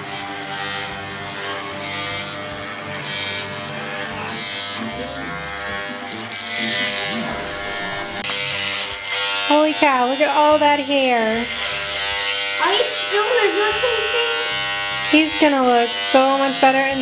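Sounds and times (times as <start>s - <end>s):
electric clippers buzzing: 0.0s - 17.0s.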